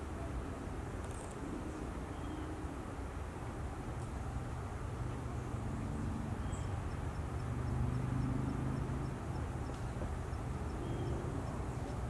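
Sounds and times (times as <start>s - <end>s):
passing traffic engine hum: 0.0s - 12.0s.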